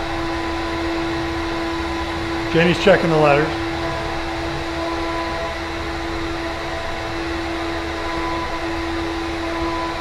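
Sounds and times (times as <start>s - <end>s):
router spindle whine: 0.0s - 10.0s.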